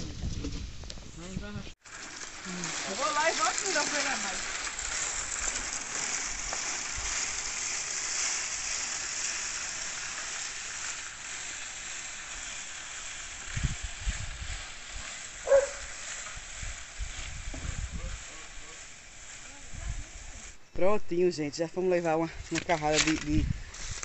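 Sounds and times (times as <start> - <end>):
branches scraping along dirt road: 0.0 - 20.7, 21.9 - 24.0.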